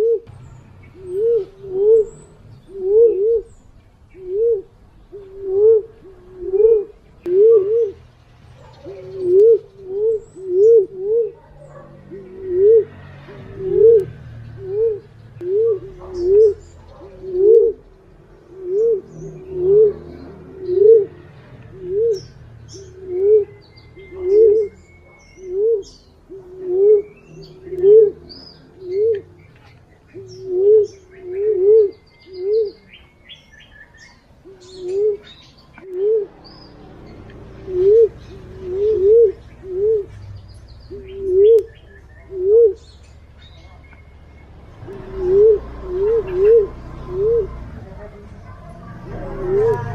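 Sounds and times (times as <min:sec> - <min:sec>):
pigeon hooting coos: 0:00.0 - 0:00.3, 0:00.9 - 0:08.0, 0:08.6 - 0:33.0, 0:33.9 - 0:36.5, 0:37.5 - 0:40.2, 0:40.8 - 0:43.1, 0:44.7 - 0:49.9
small birds chirping: 0:00.0 - 0:49.9.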